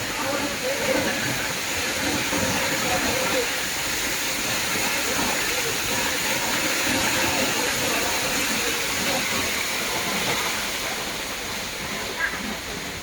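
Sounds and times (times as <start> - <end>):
rain and running water: 0.0 - 13.0.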